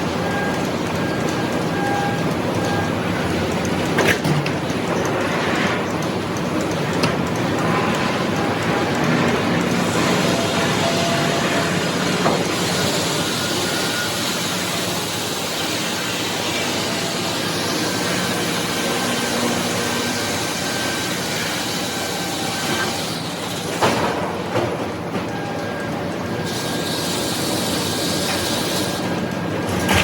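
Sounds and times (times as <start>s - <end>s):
sawmill machinery running: 0.0s - 30.0s.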